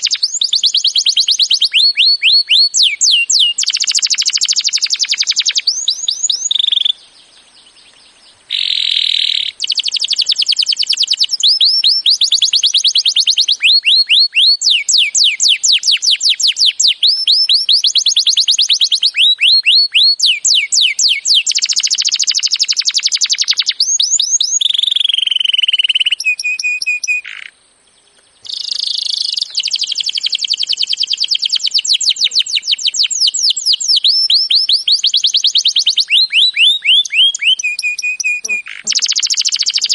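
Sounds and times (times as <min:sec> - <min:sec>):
songbird trills: 0:00.0 - 0:39.9.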